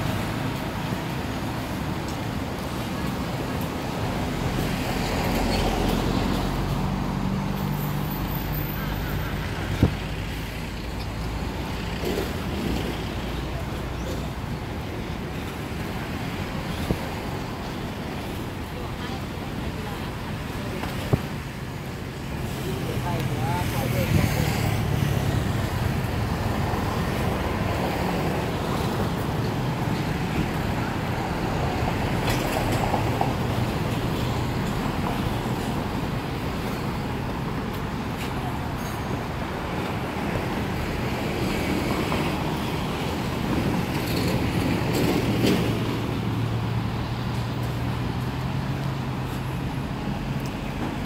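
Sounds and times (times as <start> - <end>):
road traffic noise: 0.0 - 51.0.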